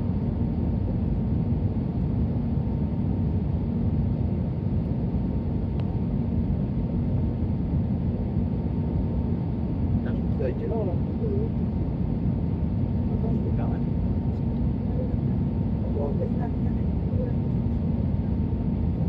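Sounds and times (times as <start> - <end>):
airliner engine and airflow rumble: 0.0 - 19.0
faint steady whine: 0.0 - 19.0.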